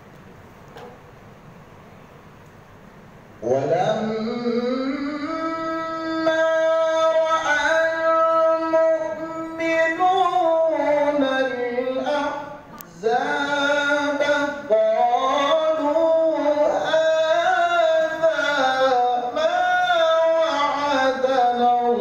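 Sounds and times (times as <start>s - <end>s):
man chanting into a microphone: 3.4s - 22.0s.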